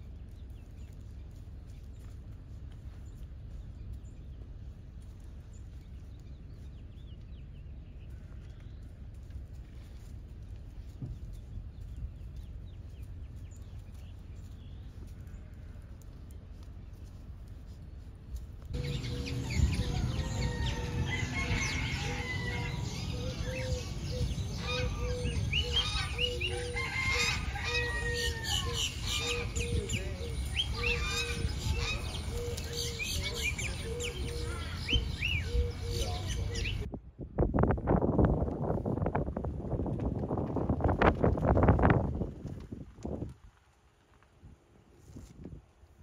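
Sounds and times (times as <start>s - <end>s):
low outdoor rumble: 0.0s - 46.0s.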